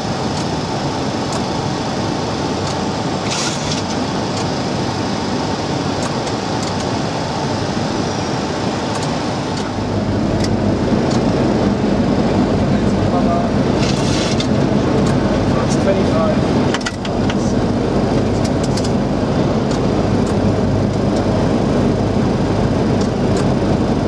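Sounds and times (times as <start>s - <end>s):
jet engine and airflow rush: 0.0s - 24.0s
deep rumble: 3.0s - 24.0s.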